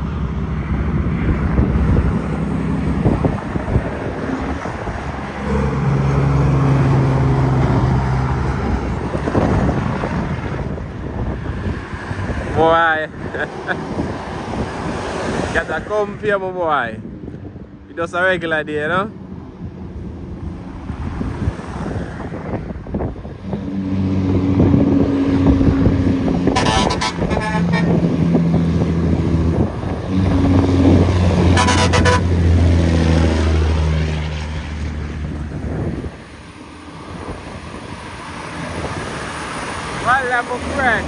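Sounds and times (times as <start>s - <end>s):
diesel truck climbing a grade: 0.0s - 15.8s, 16.7s - 41.0s.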